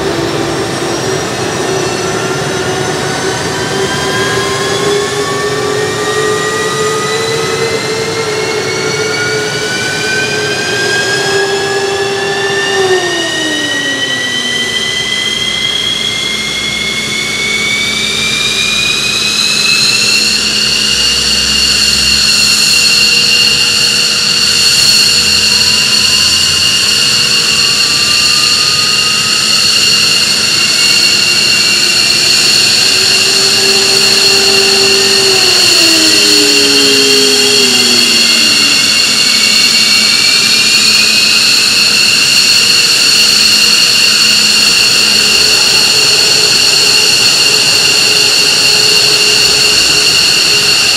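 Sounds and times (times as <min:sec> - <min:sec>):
jet engine whine spooling up: 0:00.0 - 0:50.9
second engine whine climbing: 0:00.0 - 0:50.9.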